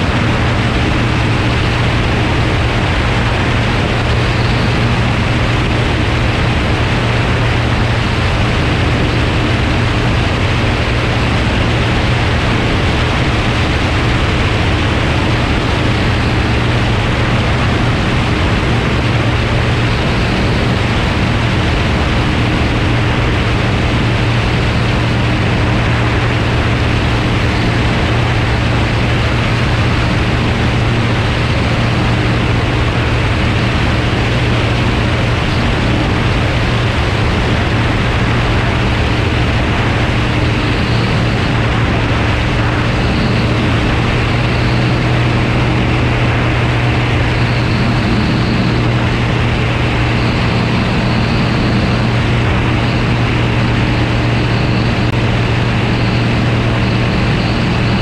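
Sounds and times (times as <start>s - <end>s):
heavy wind rush: 0.0s - 58.0s
plane engine and propeller drone: 0.0s - 58.0s.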